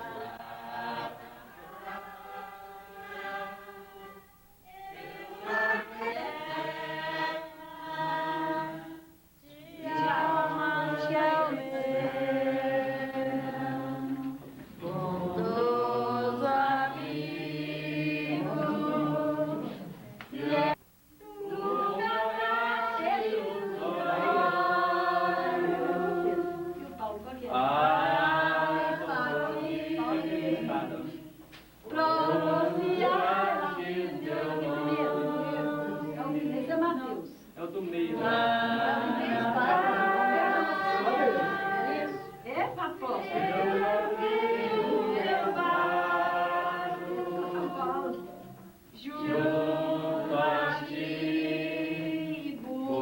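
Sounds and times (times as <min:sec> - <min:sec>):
group singing a hymn: 0:00.0 - 0:53.0.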